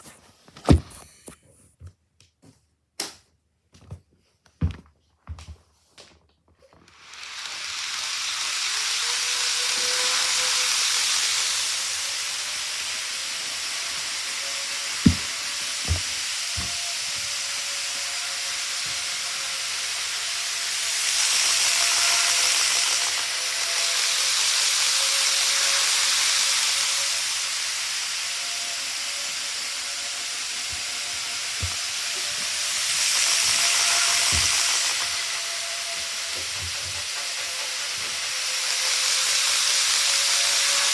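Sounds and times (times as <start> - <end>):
model train running on track: 6.9 - 40.9.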